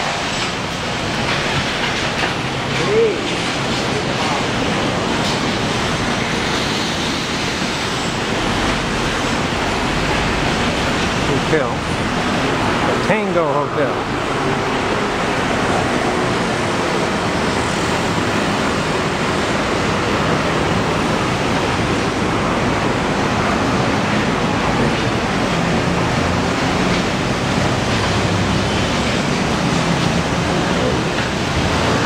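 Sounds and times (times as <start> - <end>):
city street traffic: 0.0 - 32.0.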